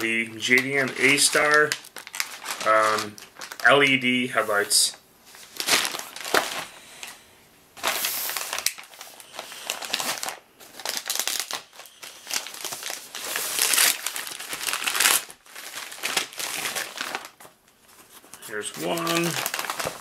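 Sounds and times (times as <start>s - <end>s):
plastic mailer crinkling: 0.0s - 7.2s, 7.8s - 20.0s.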